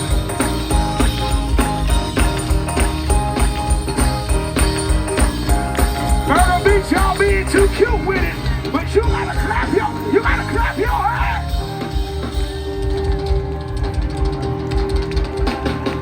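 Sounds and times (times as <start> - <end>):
gospel band music: 0.0 - 16.0.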